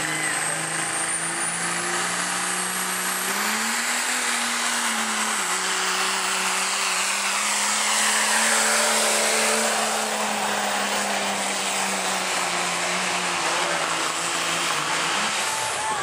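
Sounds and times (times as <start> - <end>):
diesel truck engine under heavy load: 0.0 - 16.0.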